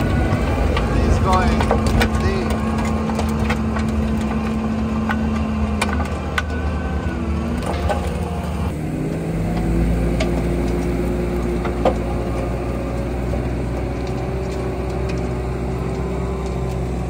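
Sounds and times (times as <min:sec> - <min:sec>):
diesel engine running under load: 0:00.0 - 0:17.0
mulcher grinding a stump: 0:00.0 - 0:17.0.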